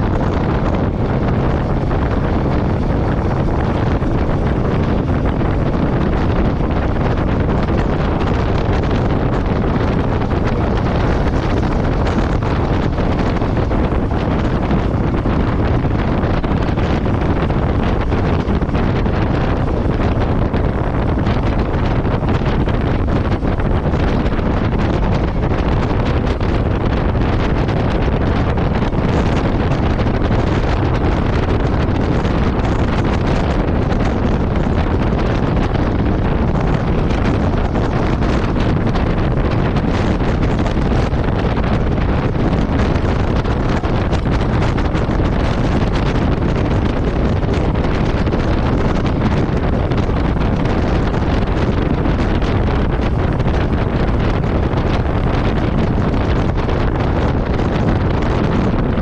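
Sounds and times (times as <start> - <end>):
motorcycle engine running: 0.0 - 56.6
wind buffeting microphone: 0.0 - 59.0.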